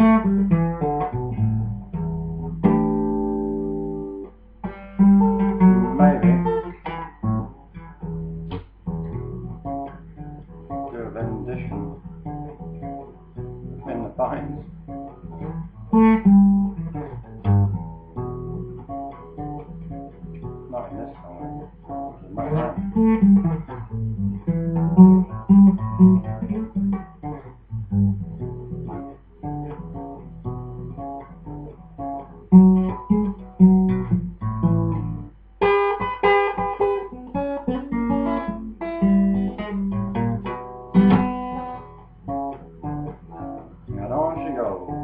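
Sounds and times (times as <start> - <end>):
blues acoustic guitar: 0.0 - 45.0.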